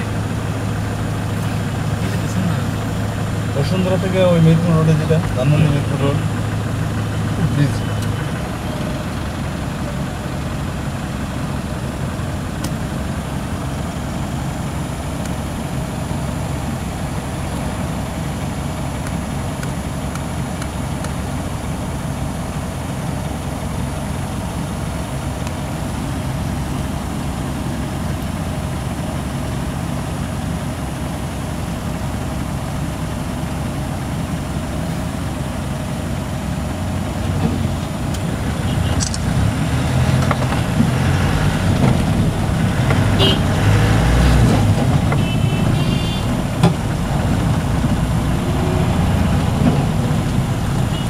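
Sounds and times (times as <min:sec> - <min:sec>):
car engine idling: 0:00.0 - 0:51.0
surrounding traffic engines: 0:00.0 - 0:51.0.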